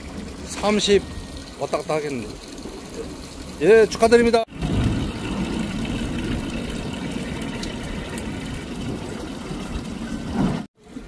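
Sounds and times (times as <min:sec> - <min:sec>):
boat engine rumble: 0:00.0 - 0:11.0
water rushing: 0:00.0 - 0:11.0.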